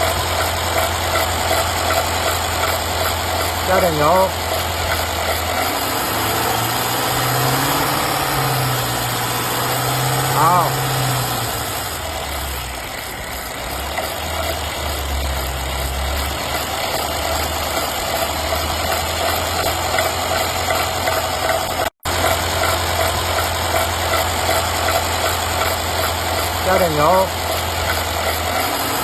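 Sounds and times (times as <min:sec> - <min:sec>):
engine idling: 0:00.0 - 0:29.0
faint mechanical ticking: 0:00.0 - 0:29.0.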